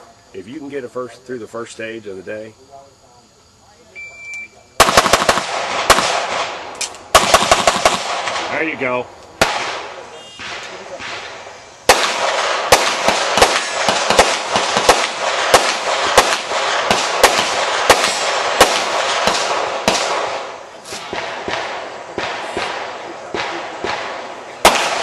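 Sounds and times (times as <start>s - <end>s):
rapid pistol fire: 4.8s - 25.0s.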